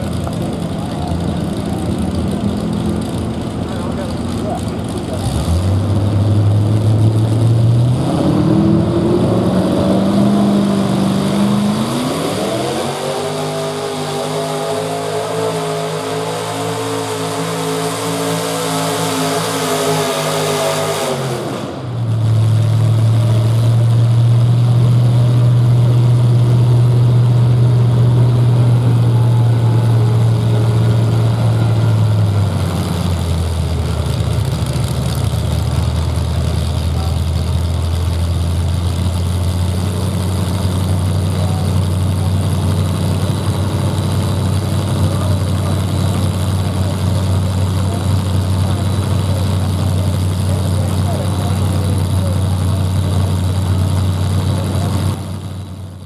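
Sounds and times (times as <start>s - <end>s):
engine idling: 0.0s - 56.0s
tractor engine revving: 0.0s - 56.0s.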